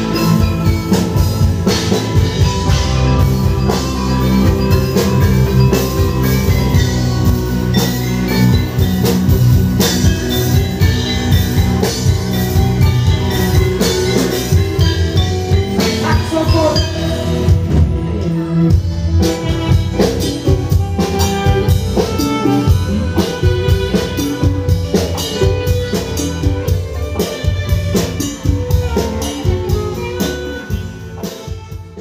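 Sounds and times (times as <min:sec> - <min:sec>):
drum kit beat: 0:00.0 - 0:32.0
ringing metallic tuned percussion: 0:00.0 - 0:32.0.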